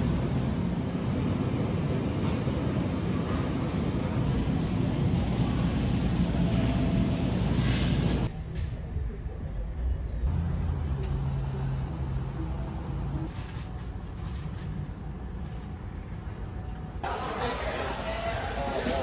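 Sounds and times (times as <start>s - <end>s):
vehicle engine rumble: 0.0s - 17.1s.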